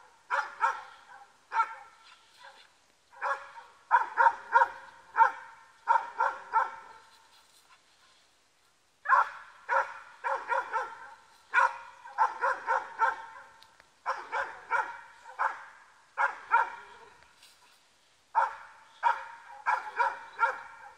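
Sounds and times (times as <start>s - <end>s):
dog barking: 0.0s - 7.1s, 9.0s - 17.2s, 18.3s - 20.9s.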